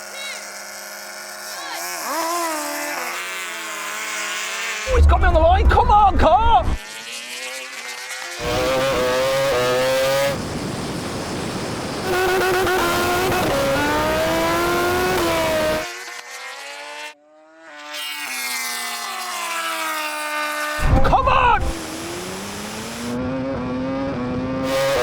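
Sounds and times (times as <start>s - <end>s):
drag racing engines accelerating: 0.0s - 25.0s.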